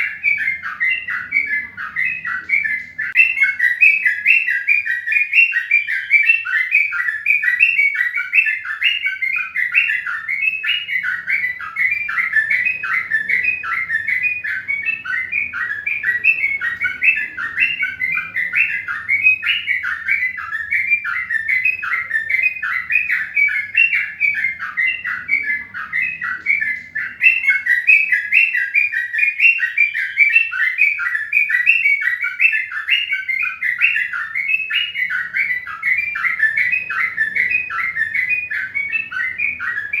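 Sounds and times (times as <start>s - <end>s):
birds chirping rapidly: 0.0s - 40.0s.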